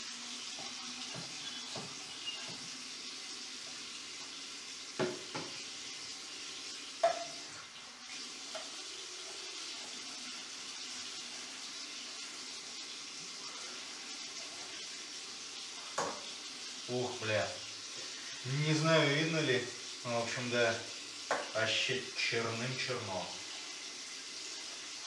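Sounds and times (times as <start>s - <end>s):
tap water running: 0.0s - 25.0s.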